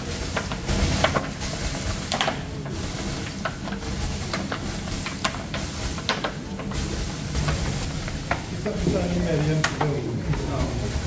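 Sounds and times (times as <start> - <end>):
water sizzling on hot oven walls: 0.0 - 11.0.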